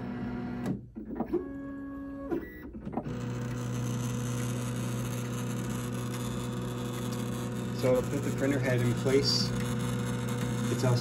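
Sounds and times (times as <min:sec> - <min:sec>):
printer humming: 0:00.0 - 0:11.0
printer motors whining: 0:00.0 - 0:11.0.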